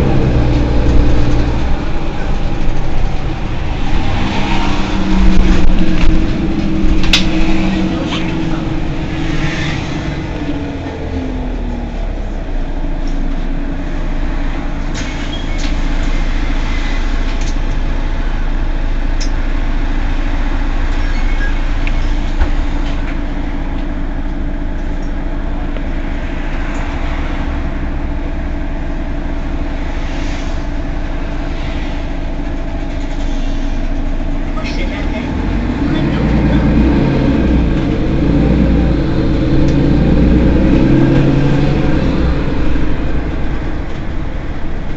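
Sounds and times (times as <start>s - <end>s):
bus engine droning: 0.0s - 44.9s.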